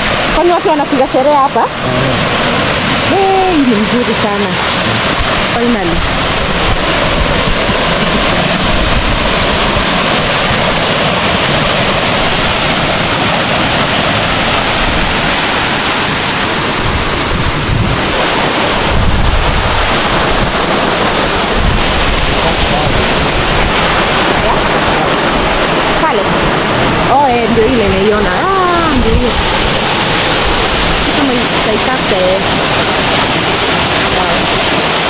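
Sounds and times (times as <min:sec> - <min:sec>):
waterfall rushing: 0:00.0 - 0:35.0
wind buffeting microphone: 0:00.0 - 0:35.0.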